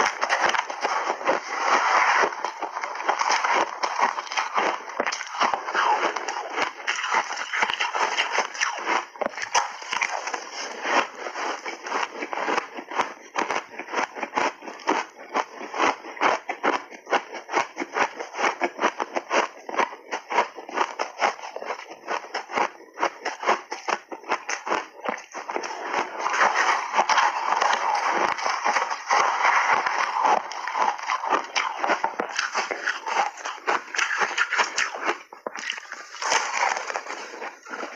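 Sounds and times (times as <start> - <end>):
ice crunching as chewed: 0.0 - 37.9.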